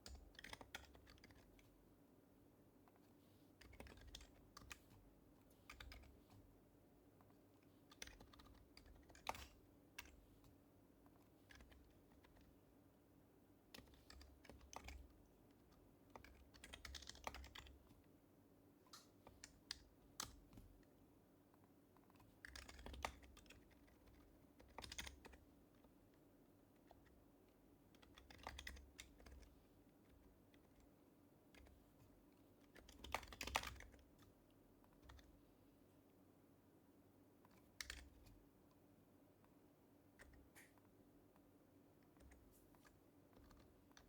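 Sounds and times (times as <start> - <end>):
soft keyboard keystrokes: 0.0 - 2.0, 2.8 - 12.7, 13.6 - 18.2, 18.8 - 35.5, 37.4 - 44.0.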